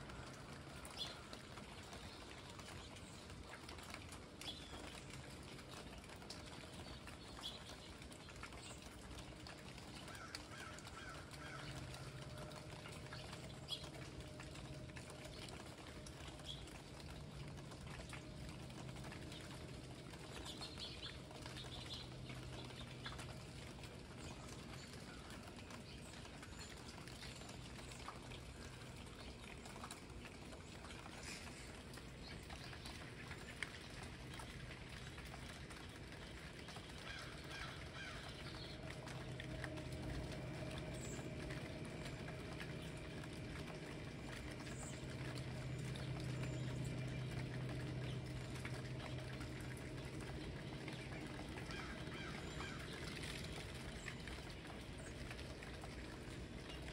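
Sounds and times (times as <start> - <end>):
faint low hum: 0.0 - 56.9
rain dripping and pattering: 0.0 - 56.9
birds chirping: 0.1 - 56.9.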